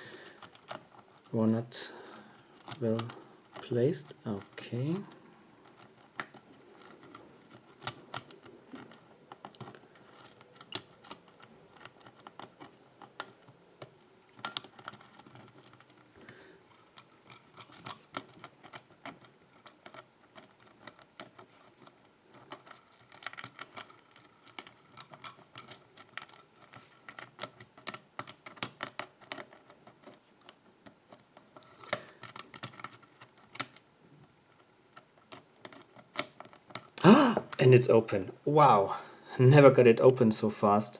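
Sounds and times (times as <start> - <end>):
lock pick clicking and scraping: 0.0 - 1.3, 2.0 - 37.6.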